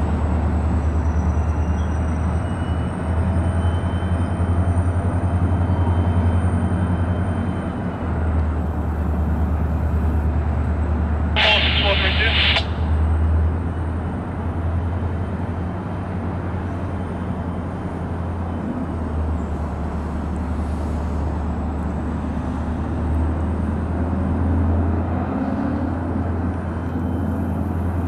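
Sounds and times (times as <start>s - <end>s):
locomotive engine rumble: 0.0s - 25.2s.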